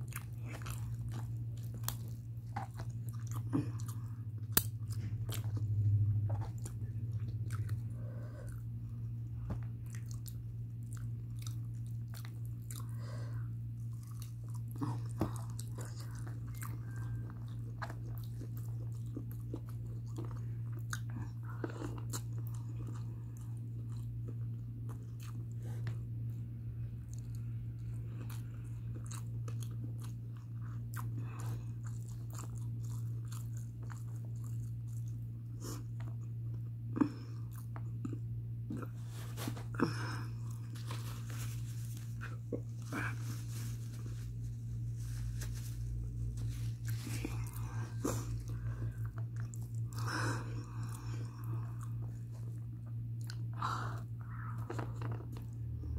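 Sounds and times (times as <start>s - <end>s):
chewing and mouth sounds: 0.0s - 44.9s, 45.9s - 55.9s
steady low hum: 0.0s - 55.9s.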